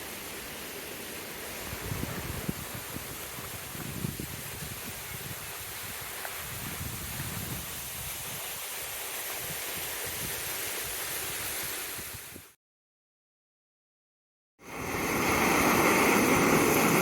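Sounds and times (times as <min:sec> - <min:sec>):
creek water rushing: 0:00.0 - 0:12.4, 0:14.6 - 0:17.0.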